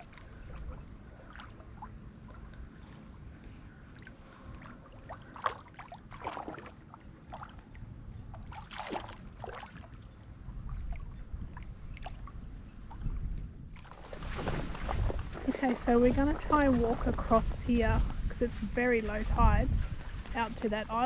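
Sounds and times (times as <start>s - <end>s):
shallow water sloshing: 0.0s - 21.0s.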